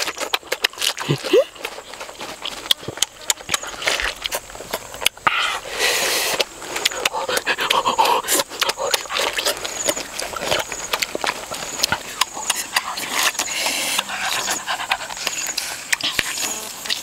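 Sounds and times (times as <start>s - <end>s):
people chewing and slurping: 0.0s - 17.0s.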